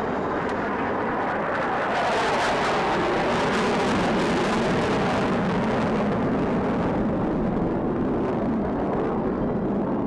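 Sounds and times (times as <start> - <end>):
jet engines flying overhead: 0.0 - 10.0.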